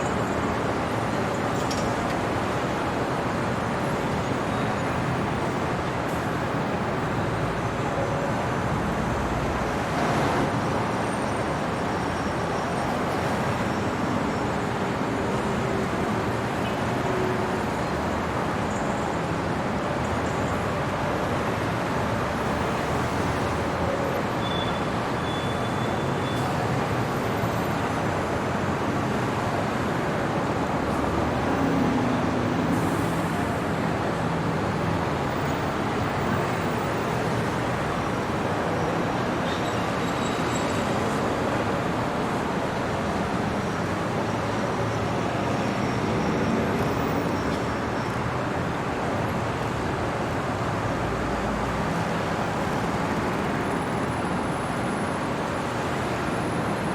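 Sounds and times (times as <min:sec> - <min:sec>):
city traffic noise: 0:00.0 - 0:56.9.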